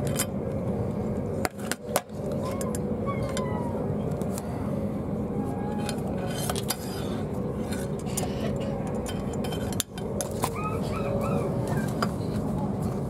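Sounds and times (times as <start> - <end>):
train interior rumble and hum: 0.0 - 13.0.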